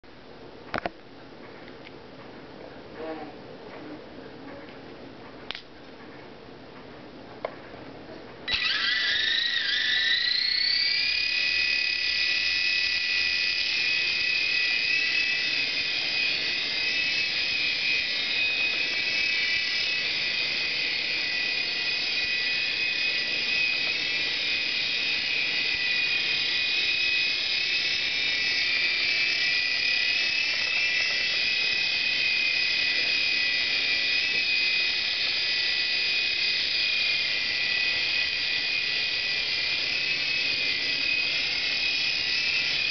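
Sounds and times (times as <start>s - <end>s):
toy helicopter motors whining: 8.5s - 42.9s.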